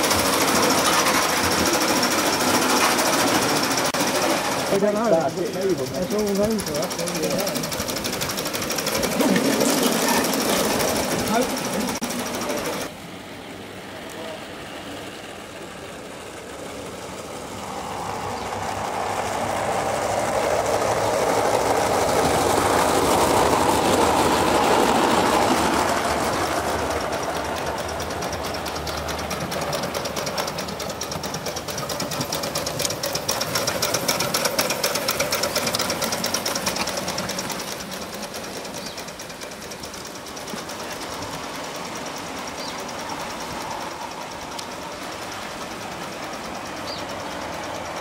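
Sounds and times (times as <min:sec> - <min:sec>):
model train wheels clattering on rails: 0:00.0 - 0:12.9, 0:20.2 - 0:48.0
rapid clicking of passing train: 0:00.0 - 0:48.0.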